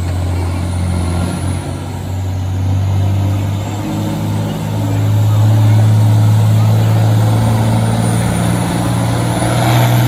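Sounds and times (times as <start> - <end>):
tractor engine under heavy load: 0.0 - 10.0.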